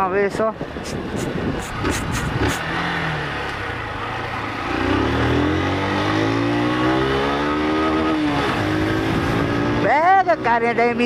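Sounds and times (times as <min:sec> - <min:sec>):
motorcycle engine accelerating: 0:00.9 - 0:11.0.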